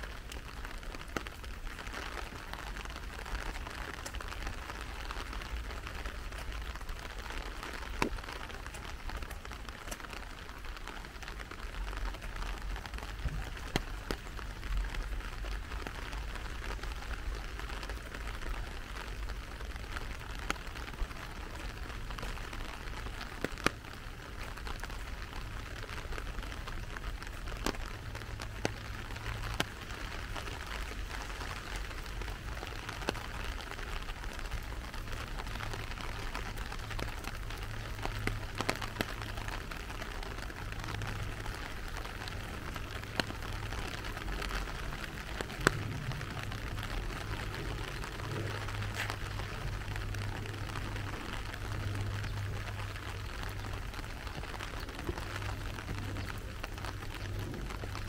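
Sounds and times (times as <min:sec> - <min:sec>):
raindrops ticking close by: 0:00.0 - 0:58.0
steady rain hiss: 0:00.0 - 0:58.0.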